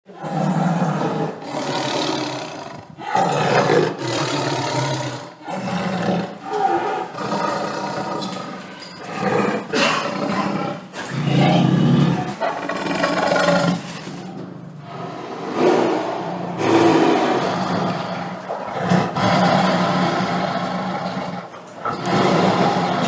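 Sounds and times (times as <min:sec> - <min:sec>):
tiger roaring: 0:00.1 - 0:23.0.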